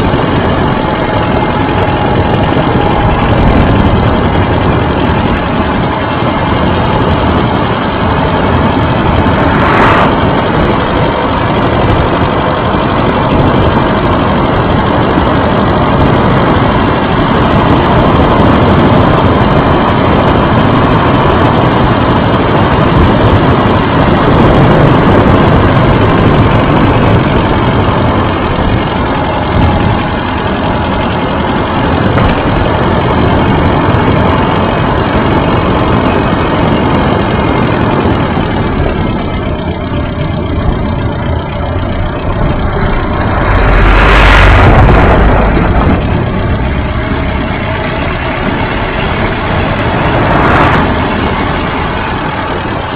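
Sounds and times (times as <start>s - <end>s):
bicycle road noise: 0.0s - 52.9s
wind buffeting: 0.0s - 52.9s.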